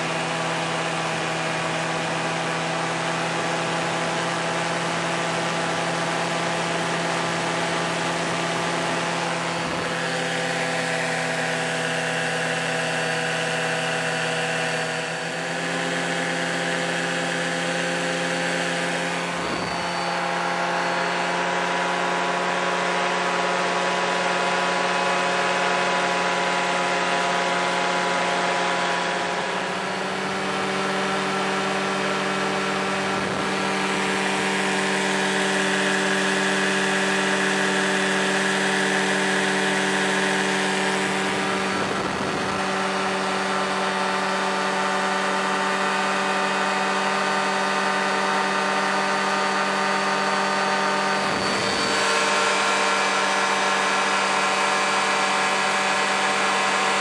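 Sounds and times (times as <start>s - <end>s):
paramotor engine droning: 0.0s - 57.0s.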